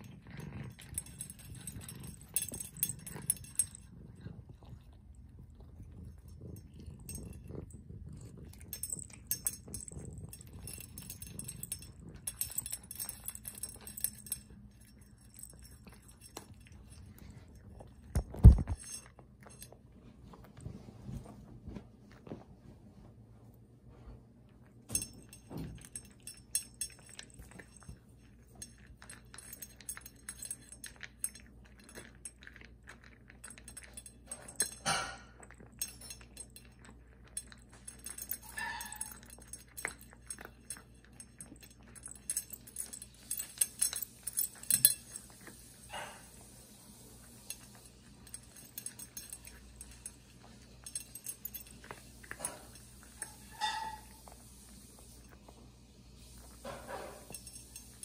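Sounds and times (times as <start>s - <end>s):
cat eating from metal bowl: 0.0s - 58.0s.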